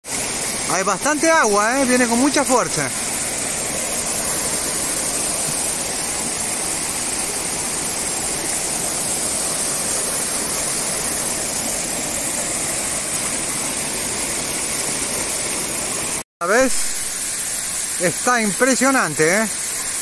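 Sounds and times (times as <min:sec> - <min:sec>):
waterfall rushing over boulders: 0:00.0 - 0:20.0.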